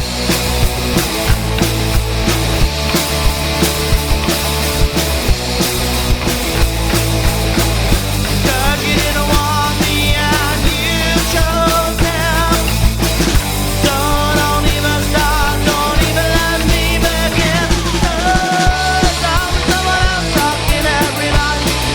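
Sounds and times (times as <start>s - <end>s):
rock band playing live: 0.0s - 21.9s.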